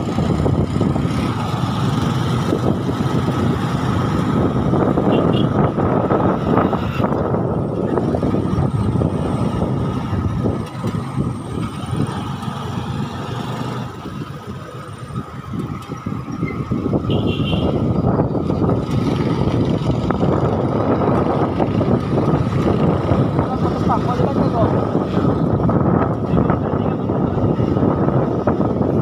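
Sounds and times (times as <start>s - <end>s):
road and wind noise: 0.0s - 29.0s
vehicle engine running: 0.0s - 29.0s.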